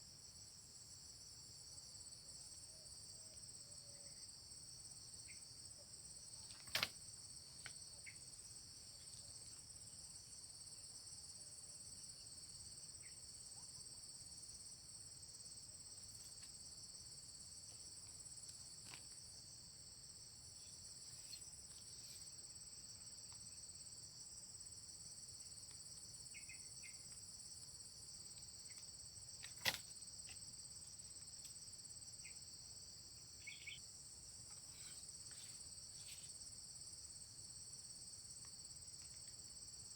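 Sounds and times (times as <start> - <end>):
insects trilling: 0.3 - 39.9.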